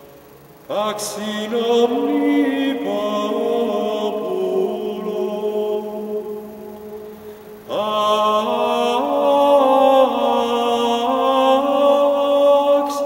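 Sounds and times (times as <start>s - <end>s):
man singing chant unaccompanied: 0.7s - 13.0s.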